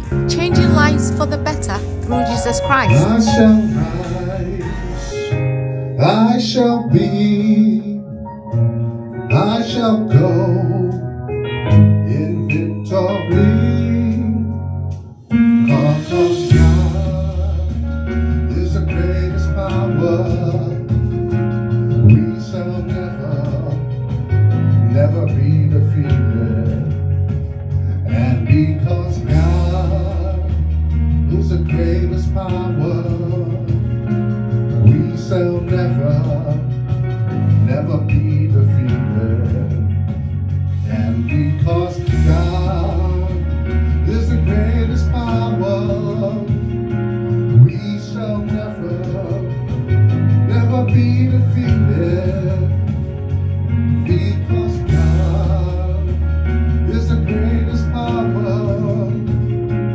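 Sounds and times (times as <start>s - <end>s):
heavy bass line: 0.0s - 6.1s, 11.7s - 59.9s
man singing: 0.0s - 8.2s, 9.2s - 11.1s, 11.7s - 14.6s, 15.5s - 21.2s, 21.9s - 27.2s, 28.0s - 34.1s, 34.7s - 46.8s, 47.5s - 59.5s
gospel band playing: 0.0s - 59.9s.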